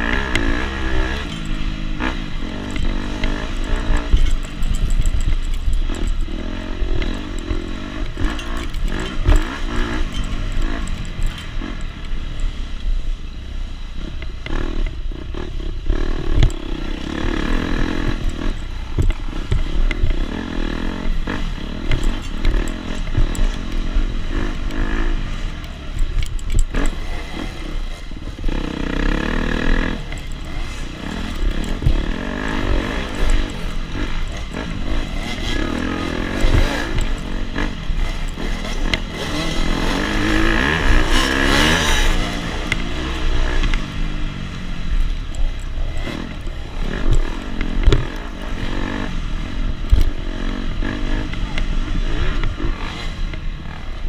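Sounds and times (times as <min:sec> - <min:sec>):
knocks and clatter: 0:00.0 - 0:12.6, 0:15.9 - 0:53.8
dirt bike engine revving: 0:00.0 - 0:54.0.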